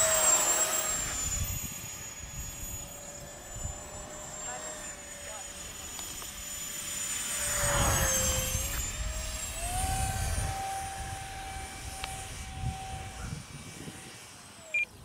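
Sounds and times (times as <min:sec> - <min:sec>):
model jet fans whining: 0:00.0 - 0:15.0.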